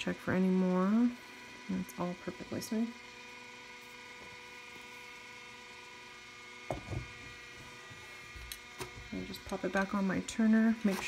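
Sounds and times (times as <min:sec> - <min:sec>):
electric motor hum: 0:00.0 - 0:11.0.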